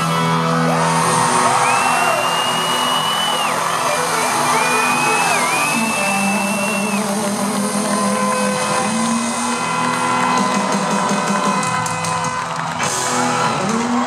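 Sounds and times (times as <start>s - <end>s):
drums: 0.0s - 14.0s
electric guitar chords: 0.0s - 14.0s.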